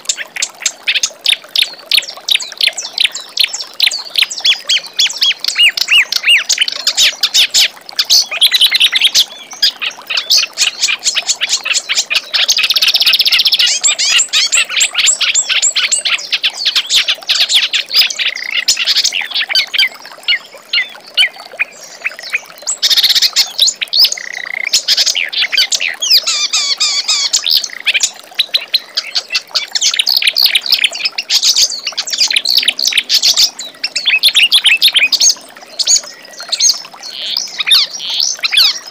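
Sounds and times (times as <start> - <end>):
reed warbler chattering song: 0.0 - 38.9.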